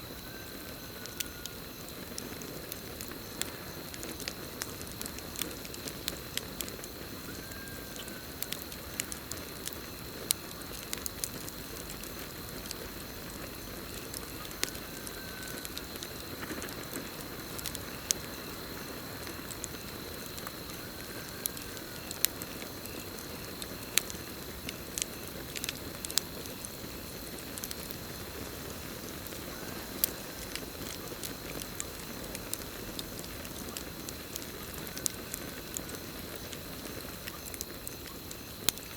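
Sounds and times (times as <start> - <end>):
campfire crackling: 0.0 - 38.9
cricket trill: 0.0 - 38.9.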